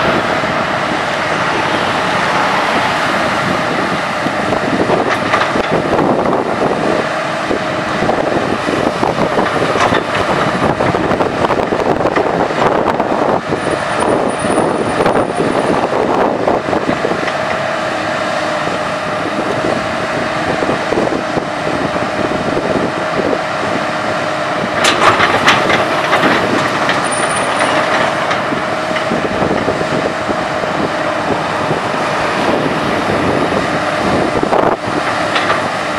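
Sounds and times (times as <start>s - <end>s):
diesel engine under load: 0.0s - 35.9s
excavator clattering: 0.1s - 35.9s.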